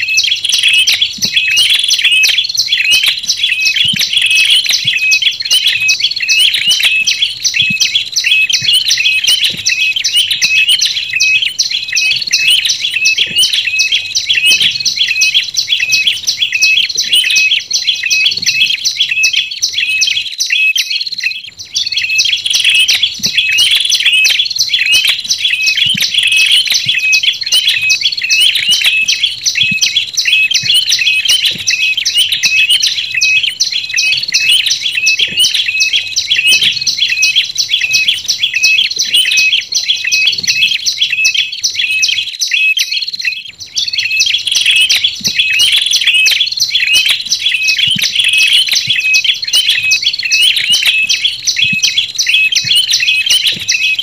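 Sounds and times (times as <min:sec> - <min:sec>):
fast high bird chirping: 0:00.0 - 0:54.0.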